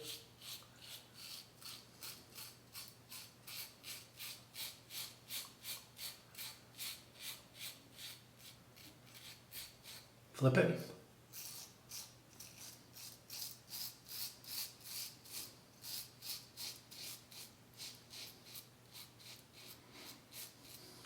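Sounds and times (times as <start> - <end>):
razor scraping stubble: 0.0 - 10.1, 11.3 - 21.0.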